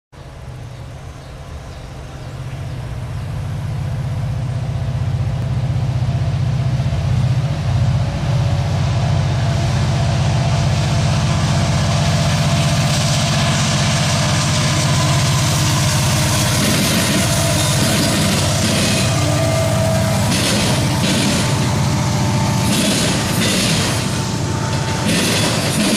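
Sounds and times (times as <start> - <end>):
locomotive engine drone: 0.2 - 25.9
wheels hissing on rail: 0.2 - 25.9.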